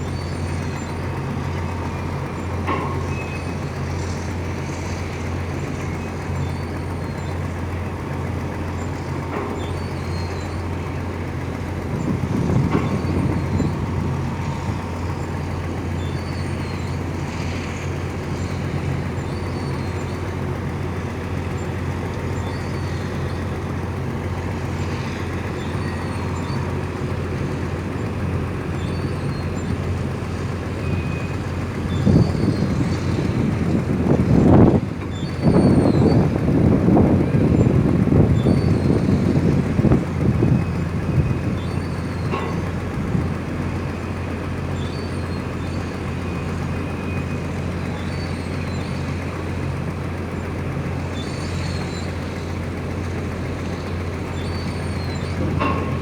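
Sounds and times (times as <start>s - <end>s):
tugboat diesel engine drone: 0.0s - 56.0s.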